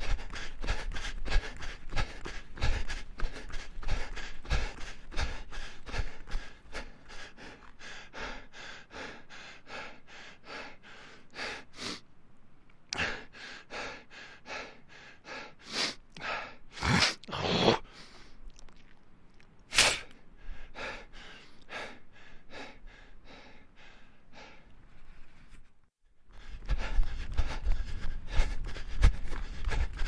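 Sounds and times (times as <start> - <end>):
person panting: 0.0 - 12.0, 12.9 - 18.4, 19.8 - 25.5, 26.3 - 30.0.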